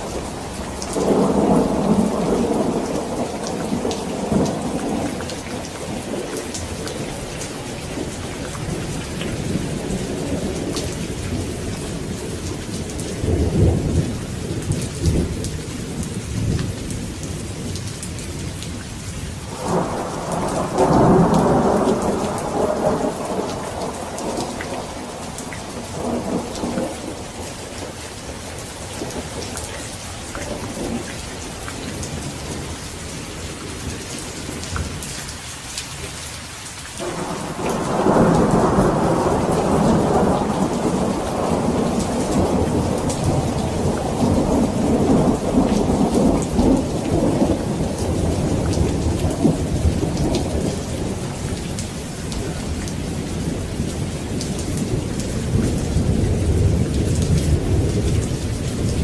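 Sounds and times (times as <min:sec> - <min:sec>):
thunder rumbling: 0:00.0 - 0:18.8, 0:19.4 - 0:35.0, 0:37.0 - 0:59.0
heavy rain hissing: 0:00.0 - 0:59.0.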